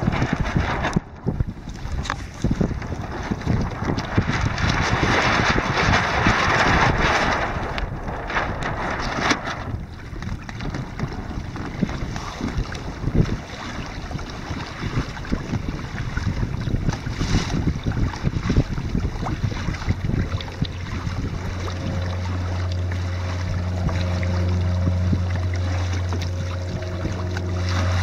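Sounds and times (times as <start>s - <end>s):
steady low hum: 0.0s - 28.0s
water splashing along a hull: 0.0s - 28.0s
wind buffeting microphone: 0.0s - 28.0s.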